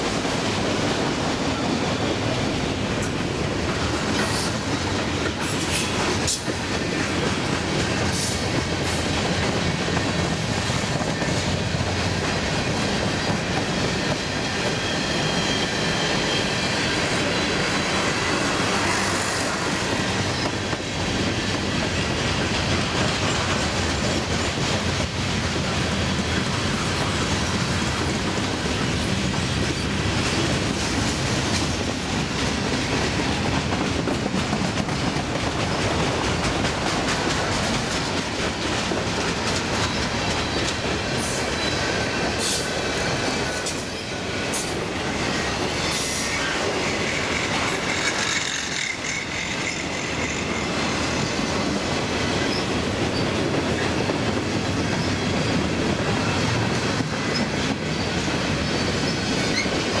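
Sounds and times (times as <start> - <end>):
freight train rolling past: 0.0 - 60.0.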